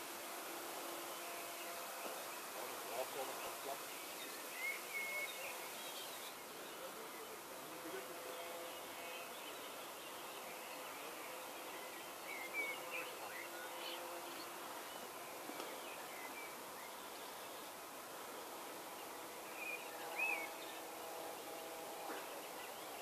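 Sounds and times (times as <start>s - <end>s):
bird chirps: 1.1s - 7.4s, 8.3s - 17.7s, 19.0s - 23.0s.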